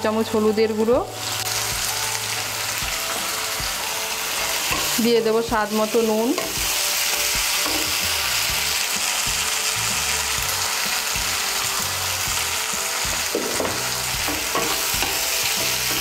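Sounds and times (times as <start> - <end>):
masala sizzling in hot oil: 0.0 - 16.0.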